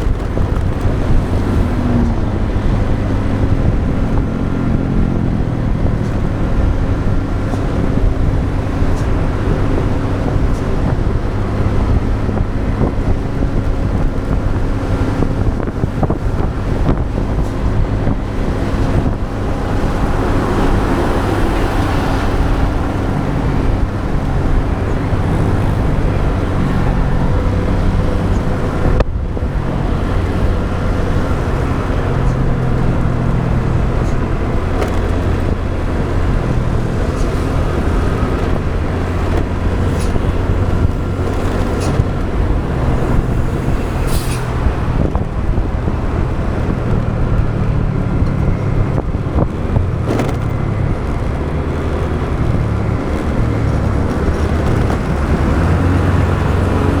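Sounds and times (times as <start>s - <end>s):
road traffic: 0.0s - 57.0s
tyre noise: 0.0s - 57.0s
wind noise: 0.0s - 57.0s.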